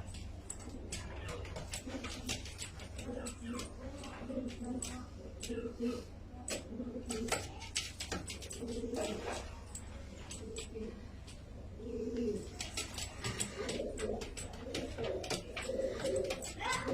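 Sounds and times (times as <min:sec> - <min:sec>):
pigeons cooing: 0:00.5 - 0:09.6, 0:10.2 - 0:16.9.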